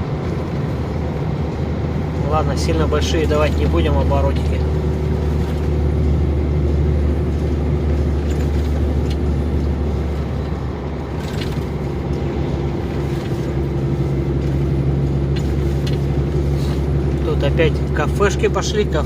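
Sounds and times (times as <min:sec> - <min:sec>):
truck engine drone from cab: 0:00.0 - 0:19.0.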